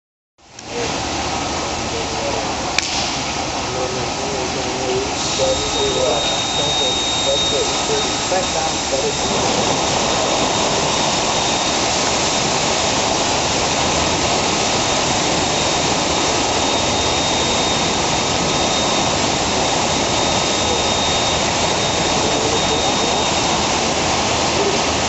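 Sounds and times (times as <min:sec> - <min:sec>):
faint high whine: 0:00.5 - 0:25.0
air bubbling through water: 0:03.0 - 0:25.0.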